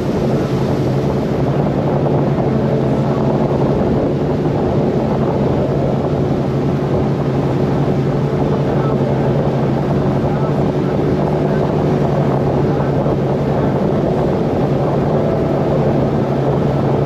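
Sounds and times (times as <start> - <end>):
motorboat engine droning: 0.0 - 17.0
wind and water rushing: 0.0 - 17.0.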